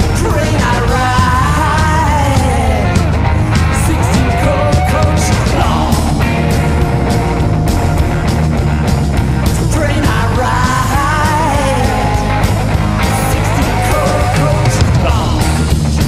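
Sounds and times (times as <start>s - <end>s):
electric guitar: 0.0s - 16.0s
rockabilly band playing: 0.0s - 16.0s.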